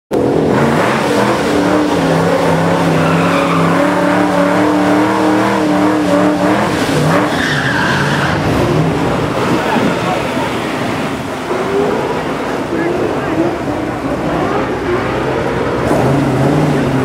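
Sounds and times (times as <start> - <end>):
car engine revving: 0.1 - 17.0
tires spinning on pavement: 0.2 - 17.0.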